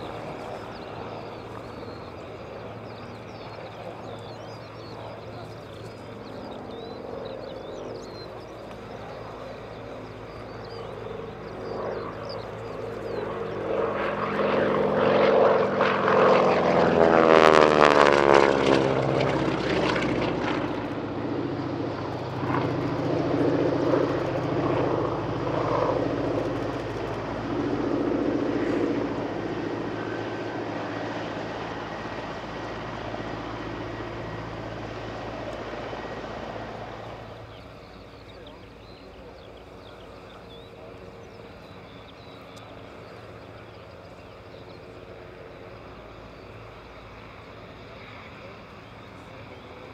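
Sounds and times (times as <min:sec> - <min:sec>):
propeller plane engine: 0:00.0 - 0:49.9.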